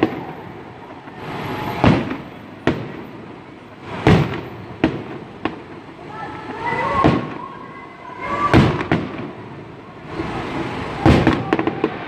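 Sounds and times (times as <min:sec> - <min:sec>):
continuous rumble: 0:00.0 - 0:12.0
firework bangs: 0:00.0 - 0:12.0.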